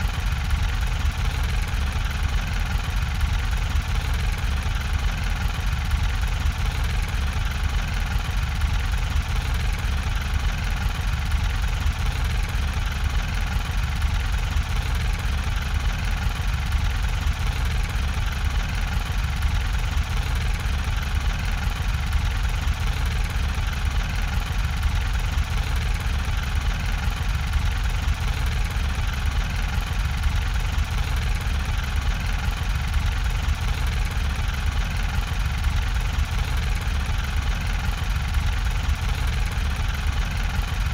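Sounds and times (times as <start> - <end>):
low mechanical rumble: 0.0 - 40.9.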